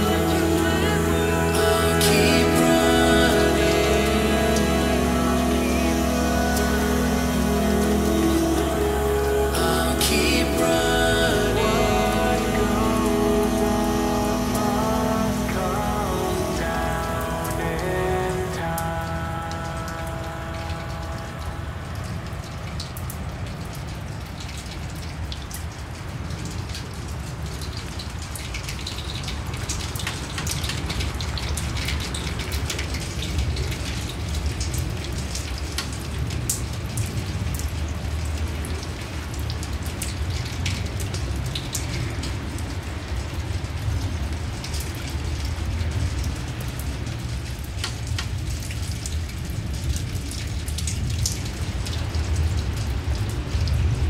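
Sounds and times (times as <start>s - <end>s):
light rain ticking: 0.0s - 54.0s.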